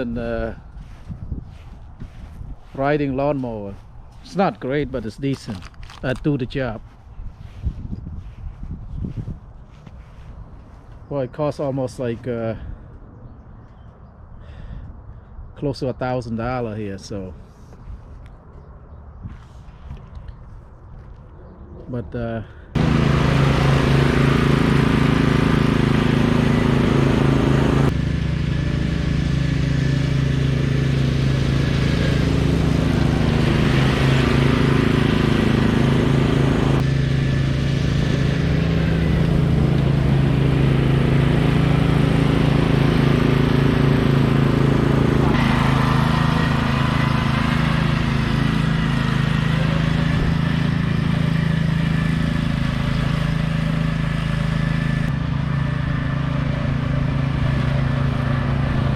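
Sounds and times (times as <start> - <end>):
riding lawn mower engine: 0.0 - 13.0, 22.2 - 58.9.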